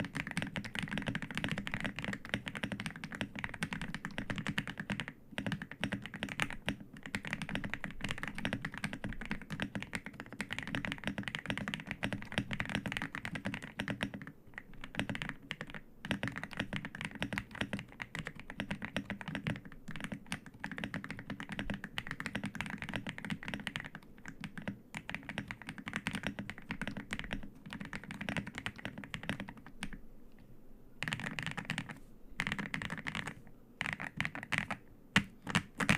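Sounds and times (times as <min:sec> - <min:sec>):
keyboard typing clacks: 0:00.0 - 0:30.0, 0:31.0 - 0:35.9.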